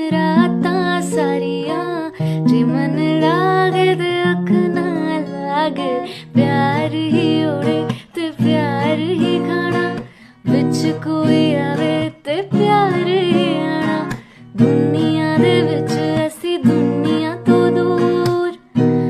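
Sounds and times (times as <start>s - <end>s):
strummed acoustic guitar: 0.0s - 19.0s
woman singing with vibrato: 0.0s - 19.0s.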